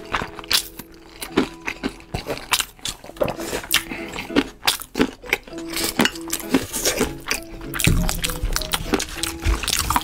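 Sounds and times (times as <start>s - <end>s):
faint background music: 0.0s - 10.0s
noodles being slurped: 0.0s - 10.0s
wet chewing: 0.0s - 10.0s.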